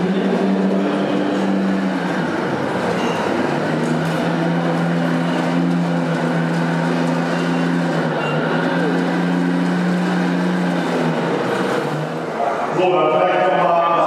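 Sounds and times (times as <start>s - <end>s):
electric motor hum and whine: 0.0s - 14.0s
rough mechanical noise: 0.0s - 14.0s.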